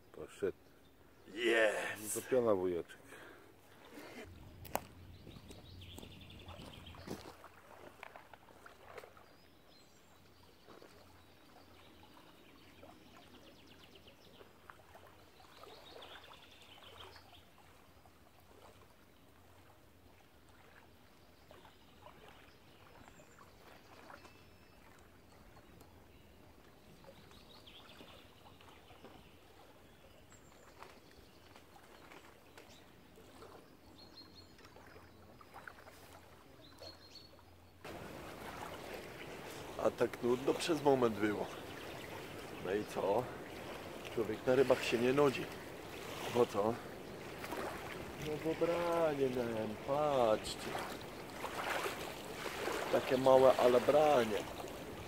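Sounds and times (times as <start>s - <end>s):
small waves lapping: 0.3s - 55.0s.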